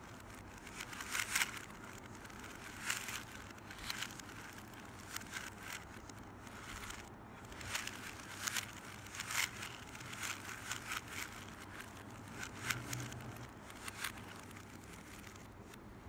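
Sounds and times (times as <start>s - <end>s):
plastic puzzle cube clicking: 0.0s - 15.8s.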